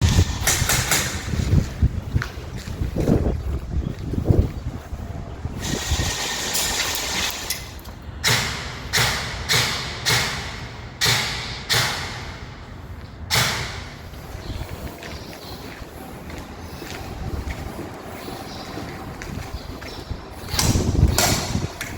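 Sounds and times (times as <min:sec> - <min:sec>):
wind noise on microphone: 0:00.0 - 0:08.6, 0:11.9 - 0:21.9.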